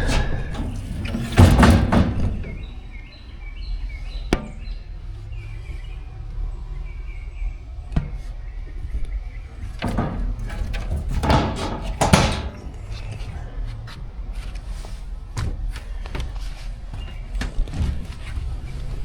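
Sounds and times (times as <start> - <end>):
hatch lids knocking and clunking: 0.0 - 5.1, 7.9 - 18.5.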